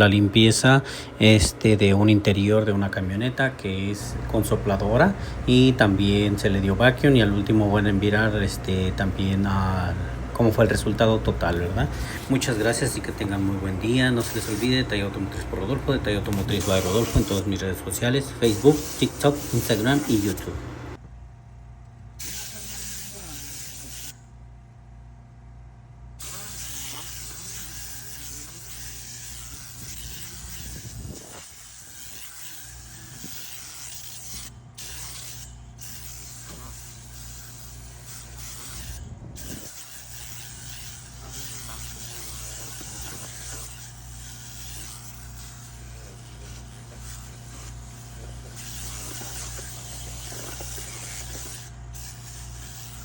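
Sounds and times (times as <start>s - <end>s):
steady low hum: 0.0s - 53.0s
compressed air hissing: 0.6s - 1.7s, 3.6s - 17.5s, 18.4s - 21.0s, 22.2s - 24.2s, 26.2s - 53.0s.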